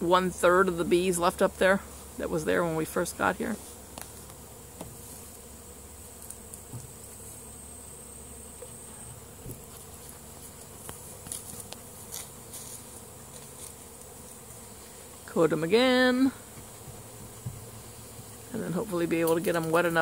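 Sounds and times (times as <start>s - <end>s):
bee swarm buzzing: 0.0s - 20.0s.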